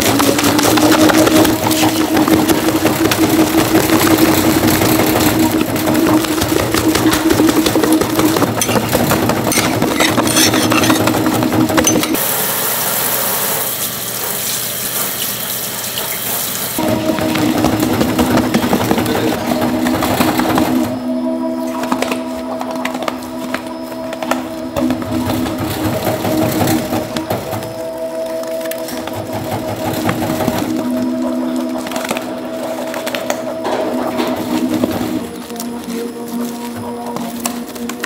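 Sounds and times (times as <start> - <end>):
kneading machine humming: 0.0 - 13.6, 16.8 - 38.0.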